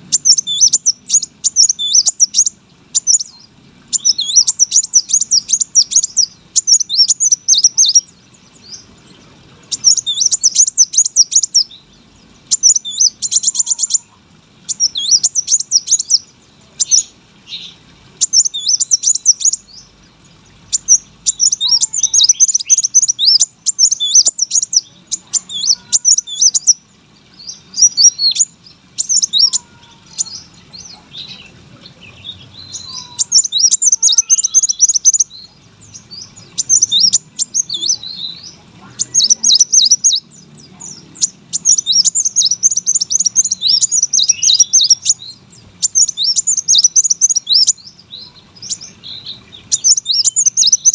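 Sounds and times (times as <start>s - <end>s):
buzzy bird trill: 0.0s - 50.9s
sunbird twittering song: 0.0s - 50.9s.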